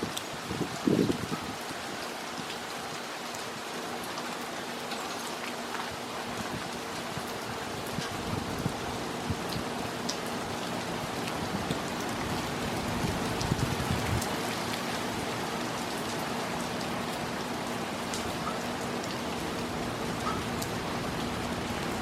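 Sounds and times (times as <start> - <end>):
raindrops ticking on surfaces: 0.0 - 22.0
steady rain falling: 0.0 - 22.0.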